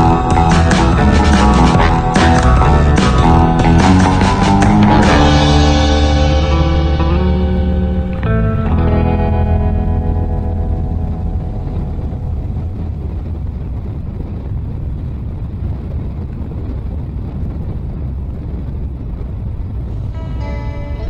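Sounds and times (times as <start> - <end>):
motorcycle engine cruising: 0.0 - 21.0
wind noise: 0.0 - 21.0.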